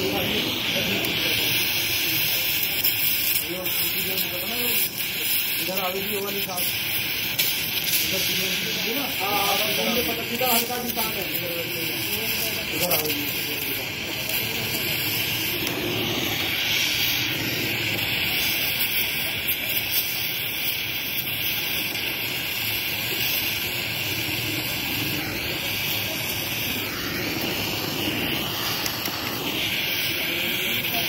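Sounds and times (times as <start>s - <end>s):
welding arc hissing: 0.0s - 31.0s.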